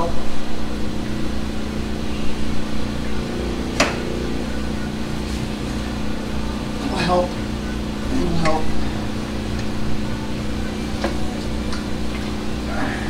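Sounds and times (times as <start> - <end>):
machine hum: 0.4 - 13.0.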